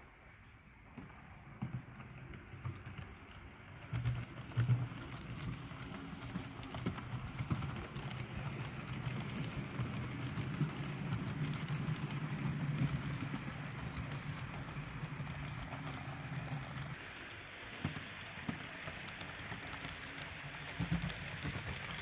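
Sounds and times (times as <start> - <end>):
model locomotive humming: 0.0 - 22.0
small wheel clicks on track: 1.0 - 22.0.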